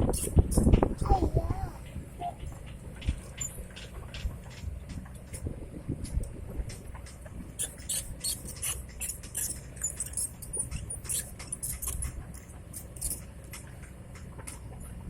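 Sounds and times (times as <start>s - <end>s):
heavy machinery engine rumble: 0.0s - 15.0s
metallic clicks and rattles: 1.8s - 15.0s.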